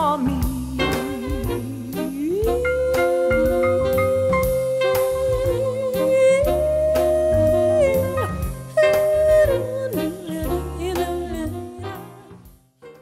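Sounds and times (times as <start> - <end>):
bass and drum hits: 0.0 - 11.8
held melody note: 0.8 - 11.5.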